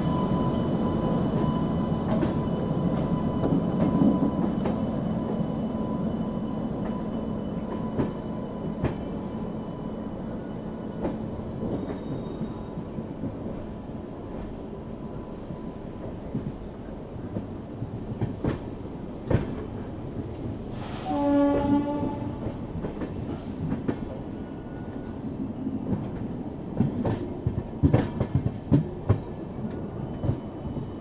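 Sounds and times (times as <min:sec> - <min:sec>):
train coach rumbling on track: 0:00.0 - 0:31.0.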